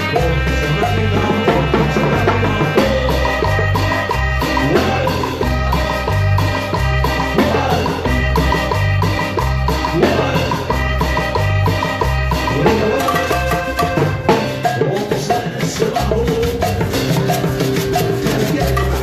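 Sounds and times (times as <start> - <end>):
salsa band playing: 0.0 - 19.0.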